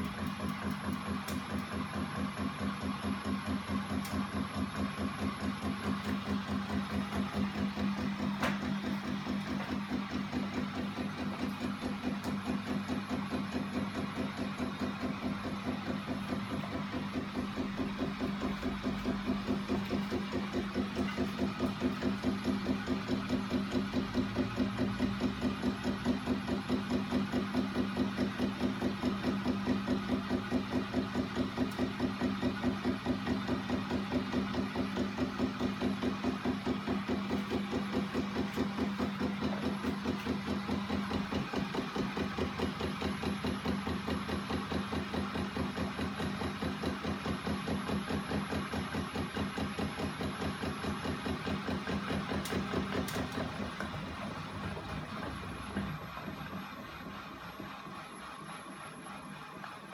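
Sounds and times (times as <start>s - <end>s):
rhythmic mechanical knocking: 0.0s - 59.9s.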